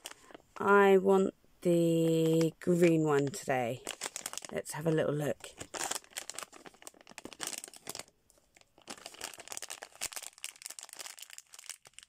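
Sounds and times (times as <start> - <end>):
plastic bag crinkling: 0.0 - 0.8, 2.0 - 12.0.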